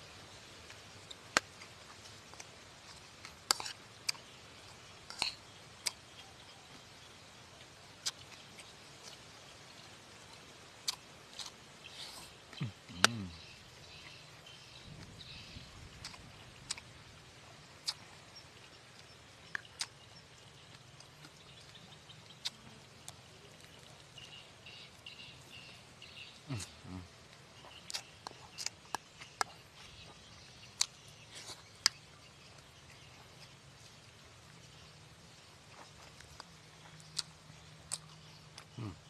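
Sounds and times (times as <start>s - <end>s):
crunchy food being chewed: 0.3s - 39.0s.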